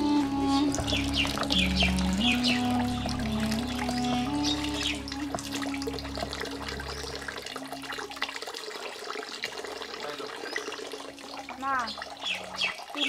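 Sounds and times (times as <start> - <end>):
water splashing on concrete: 0.6 - 13.0.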